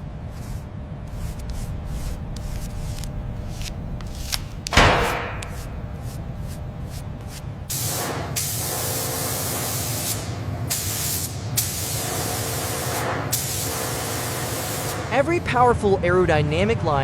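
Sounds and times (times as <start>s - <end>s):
paint spray gun hissing: 0.4s - 15.2s.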